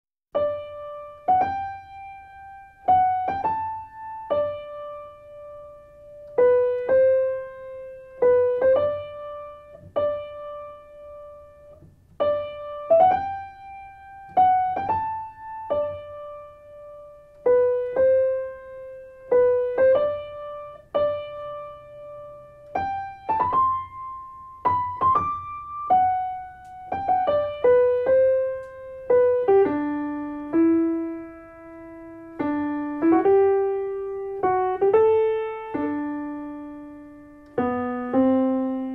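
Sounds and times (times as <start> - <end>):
slow piano melody: 0.3 - 38.9.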